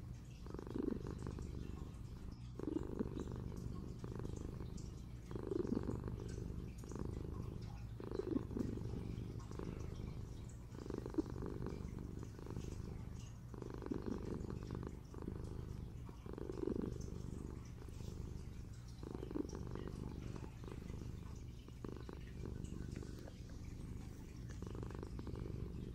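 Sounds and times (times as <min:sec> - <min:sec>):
kitten purring: 0:00.0 - 0:25.9.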